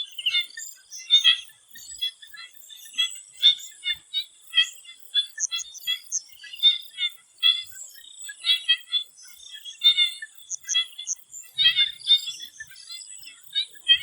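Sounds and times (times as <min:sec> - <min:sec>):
frogs calling in chorus: 0:00.0 - 0:14.0.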